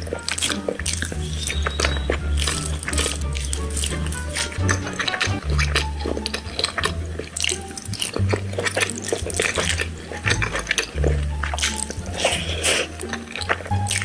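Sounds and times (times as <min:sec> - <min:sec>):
wet chewing and lip-smacking: 0:00.0 - 0:14.0.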